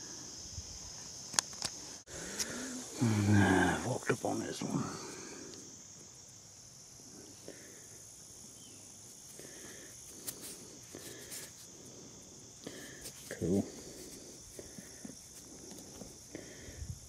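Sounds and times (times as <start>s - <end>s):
high insect chirring: 0.0s - 17.0s.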